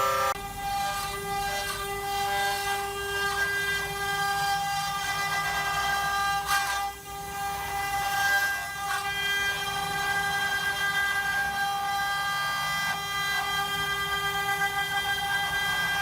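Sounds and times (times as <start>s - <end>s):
router spindle whining: 0.0s - 16.0s.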